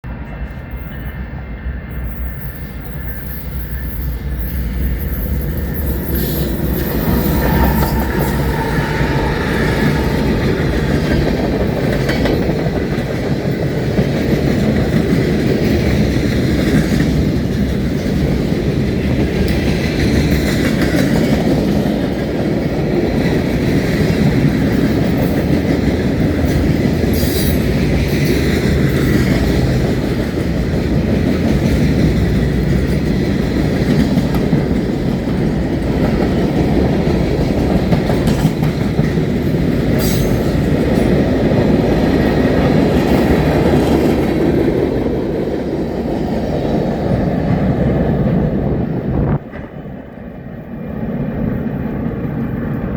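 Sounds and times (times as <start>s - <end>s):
freight train rumbling past: 0.0s - 52.9s
wheels clacking over rail joints: 3.7s - 48.4s.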